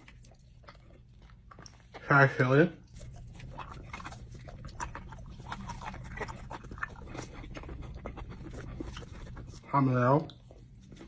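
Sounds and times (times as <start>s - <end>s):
low steady hum: 0.0s - 11.0s
person chewing and smacking: 0.0s - 11.0s.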